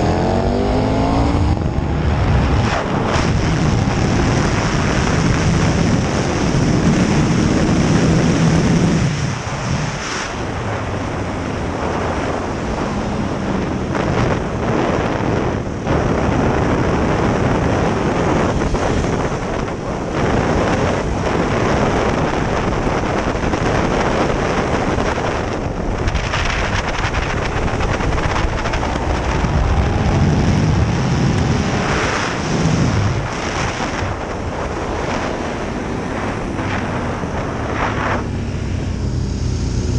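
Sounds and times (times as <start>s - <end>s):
motorcycle engine running hard: 0.0s - 39.9s
wind noise on microphone: 0.0s - 39.9s.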